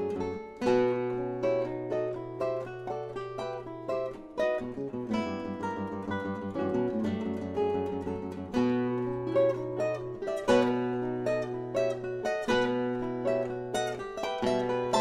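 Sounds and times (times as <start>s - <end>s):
acoustic guitar christmas tune: 0.0s - 15.0s.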